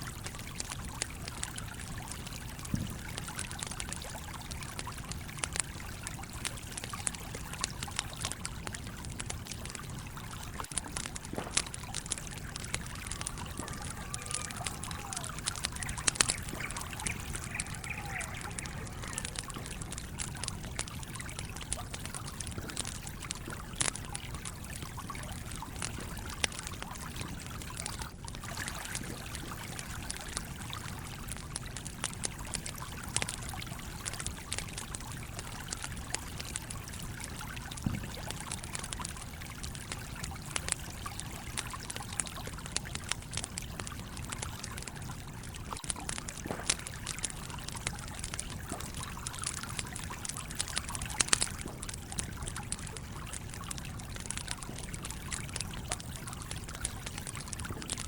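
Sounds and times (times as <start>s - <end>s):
babbling stream: 0.0s - 58.0s
campfire crackling and popping: 0.0s - 58.0s.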